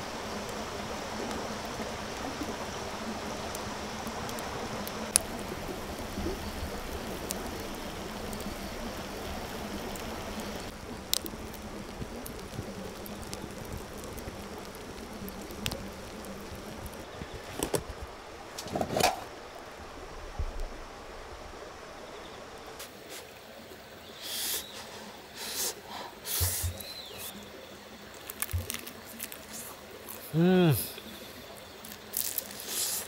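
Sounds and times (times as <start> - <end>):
wood fire crackling: 0.0 - 20.0, 24.7 - 33.0.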